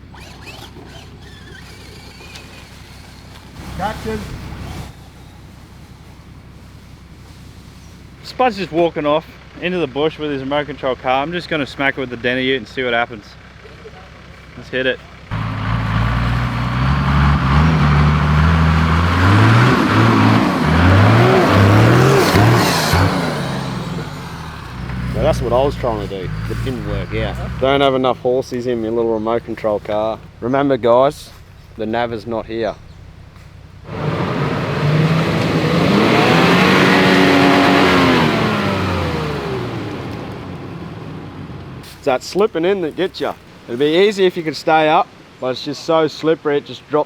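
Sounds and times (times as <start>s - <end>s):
truck engine revving: 0.0s - 8.8s, 15.2s - 44.1s.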